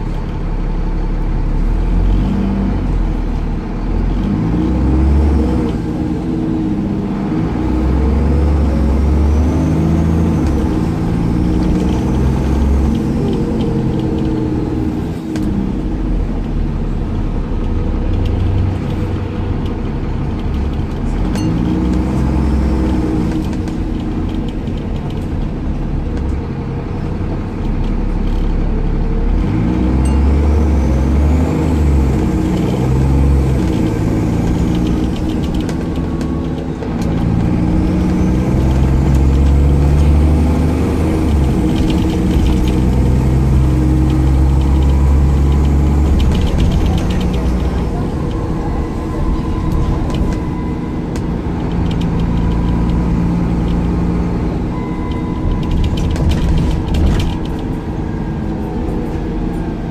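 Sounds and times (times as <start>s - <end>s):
bus diesel engine accelerating: 0.0s - 59.9s.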